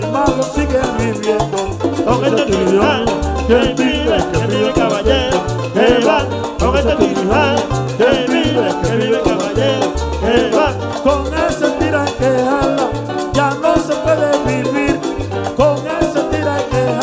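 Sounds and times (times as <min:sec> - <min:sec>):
hand drums: 0:00.0 - 0:17.0
upright bass line: 0:00.0 - 0:17.0
wavering lead melody: 0:00.0 - 0:17.0.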